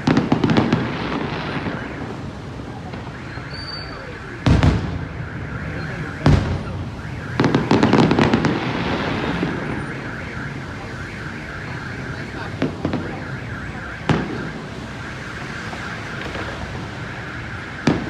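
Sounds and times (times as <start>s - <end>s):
fireworks bangs: 0.0s - 18.0s
warbling car alarm: 0.1s - 18.0s.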